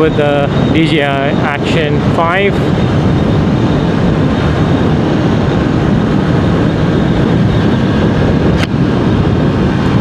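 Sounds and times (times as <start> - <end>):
wind rush at microphone: 0.0 - 10.0.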